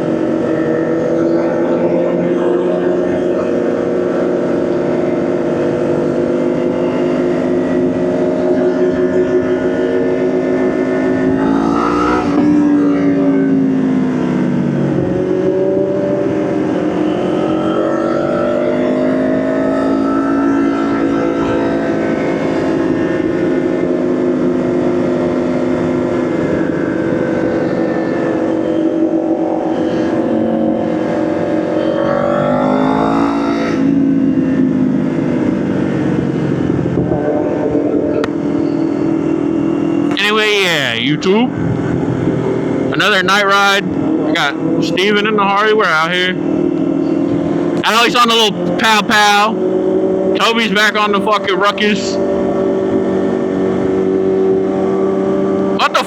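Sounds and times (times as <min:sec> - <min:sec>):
motorcycle engine riding: 0:00.0 - 0:56.0.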